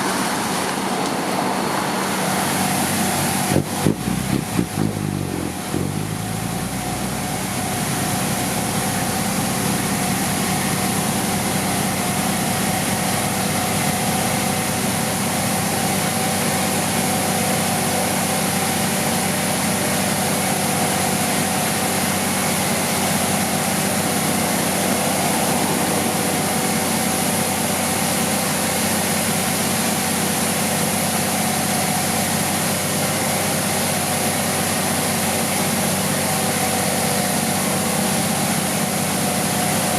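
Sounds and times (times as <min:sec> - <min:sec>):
construction machine engine idling: 0:00.0 - 0:39.9.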